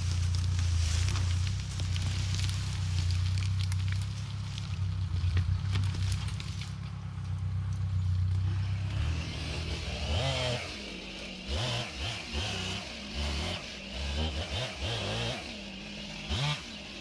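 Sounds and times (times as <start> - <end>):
engine running and revving: 0.0 - 17.0.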